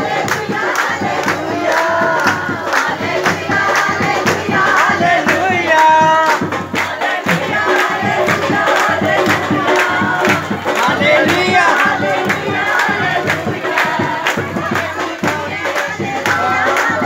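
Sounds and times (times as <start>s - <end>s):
congregation singing: 0.0s - 17.0s
music with fast steady beat: 0.0s - 17.0s.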